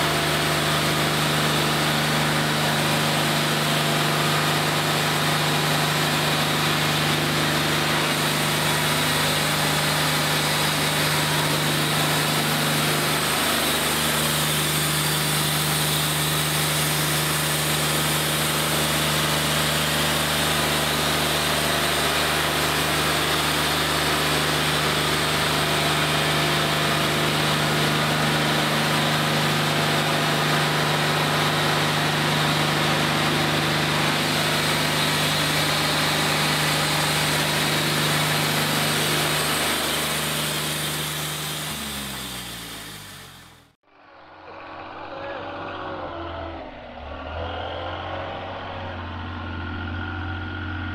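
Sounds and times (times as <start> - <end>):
band sawmill sawing a board: 0.0 - 43.7.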